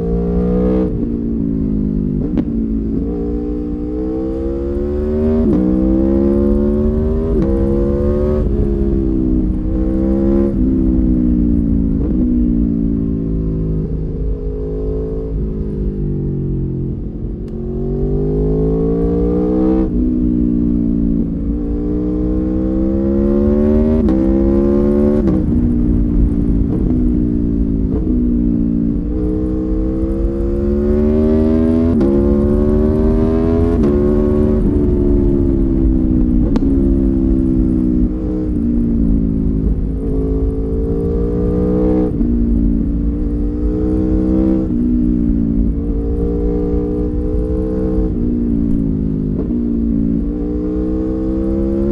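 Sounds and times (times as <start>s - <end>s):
motorcycle engine revving through gears: 0.0s - 51.9s.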